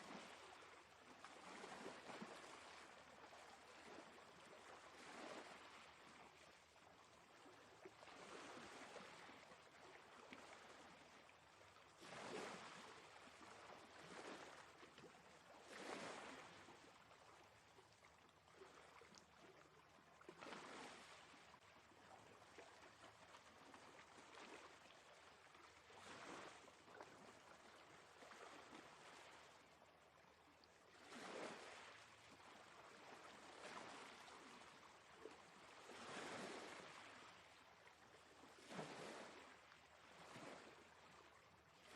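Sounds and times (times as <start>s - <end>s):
faint waves on shore: 0.0s - 41.9s.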